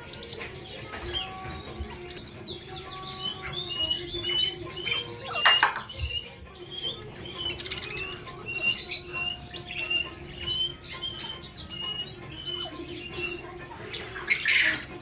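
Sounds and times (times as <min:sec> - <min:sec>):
birds chirping: 0:00.0 - 0:15.0
bird squawk: 0:02.9 - 0:15.0.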